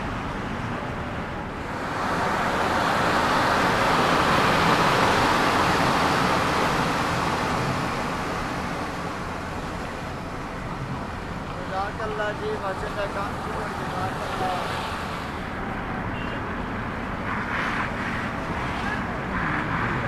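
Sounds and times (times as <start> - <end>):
rush of water: 0.0 - 20.0.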